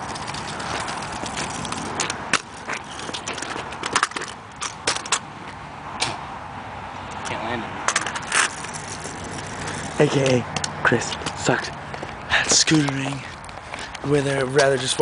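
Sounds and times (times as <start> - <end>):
scooter wheels rolling on asphalt: 0.0 - 5.8, 7.0 - 15.0
scooter deck clacking on pavement: 0.0 - 6.2, 7.1 - 15.0.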